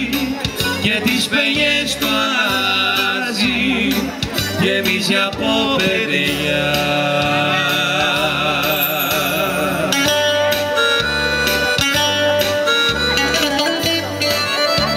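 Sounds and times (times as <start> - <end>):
alternating bass line: 0.0 - 14.9
keyboard playing: 0.0 - 14.9
plucked guitars: 0.0 - 14.9.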